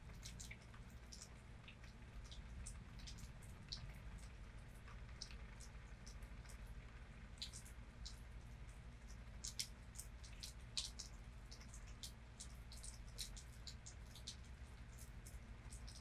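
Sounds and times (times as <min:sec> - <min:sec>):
faint low rumble: 0:00.0 - 0:16.0
raindrops ticking on surface: 0:00.0 - 0:16.0.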